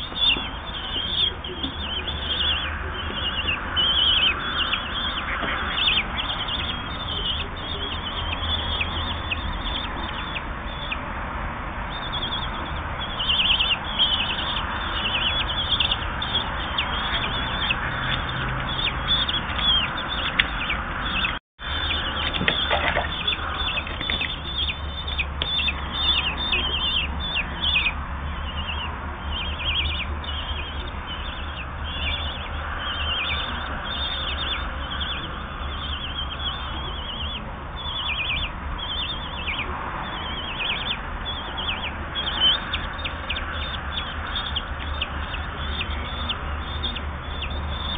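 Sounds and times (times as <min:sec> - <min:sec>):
nestlings begging with high chirps: 0:00.0 - 0:47.9.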